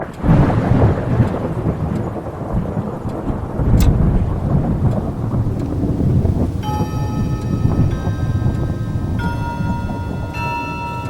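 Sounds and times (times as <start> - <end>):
rolling thunder: 0.0 - 10.4
steady rain: 0.0 - 11.0
sharp thunder crack: 0.1 - 9.2.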